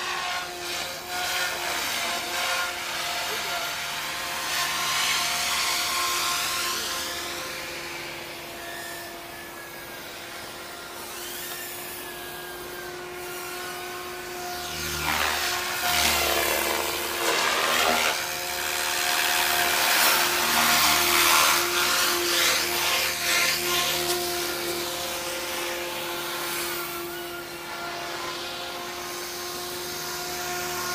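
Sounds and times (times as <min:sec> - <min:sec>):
drone buzzing whine: 0:05.2 - 0:30.9.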